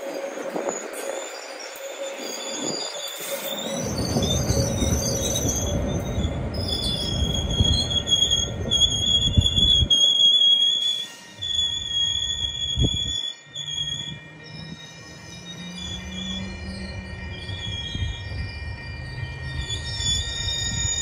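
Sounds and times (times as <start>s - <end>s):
train wheels squealing on rail: 0.0s - 21.0s
low rumble of wheels: 2.2s - 10.0s, 11.4s - 21.0s.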